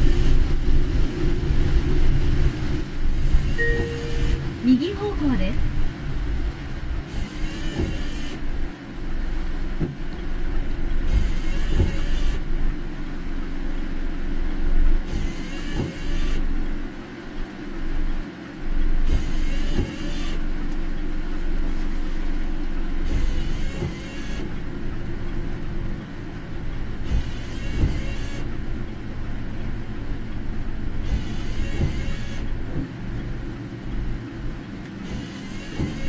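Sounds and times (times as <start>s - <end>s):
windscreen wipers sweeping: 0.0s - 16.8s, 17.8s - 36.0s
tyres and engine rumble on wet road: 0.0s - 36.0s.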